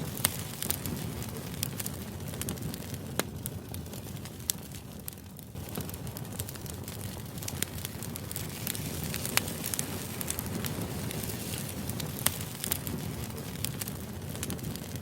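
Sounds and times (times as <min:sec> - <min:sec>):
sharp crackles and clicks: 0:00.0 - 0:15.0.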